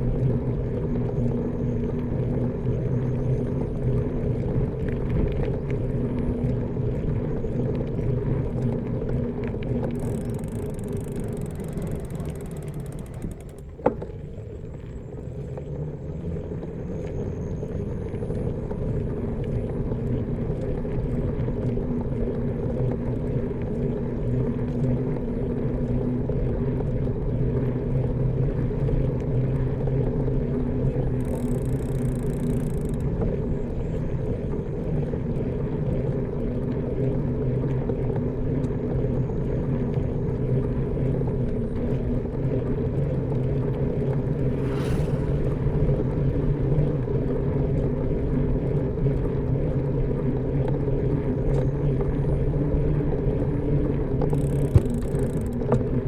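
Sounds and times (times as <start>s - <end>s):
bicycle rolling hum: 0.0s - 56.0s.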